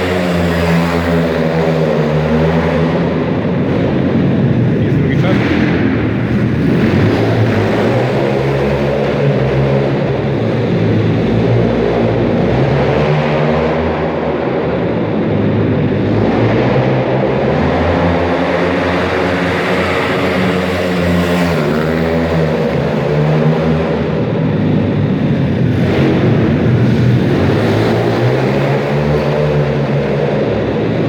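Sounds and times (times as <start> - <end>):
motorbike engine revving: 0.0 - 31.0.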